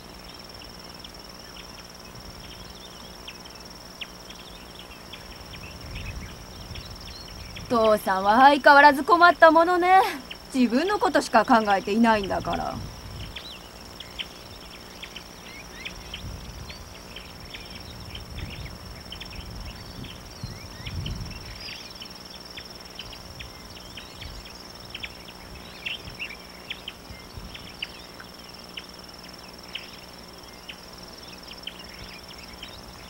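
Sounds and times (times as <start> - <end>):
insect trilling: 0.0 - 33.0.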